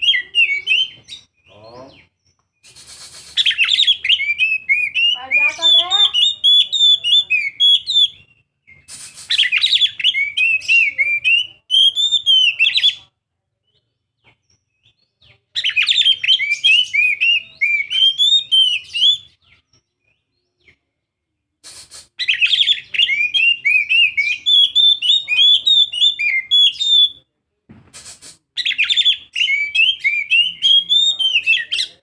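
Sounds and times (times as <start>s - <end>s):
bird warbling and whistling: 0.0s - 13.0s, 15.6s - 19.4s, 21.6s - 27.2s, 27.9s - 32.0s.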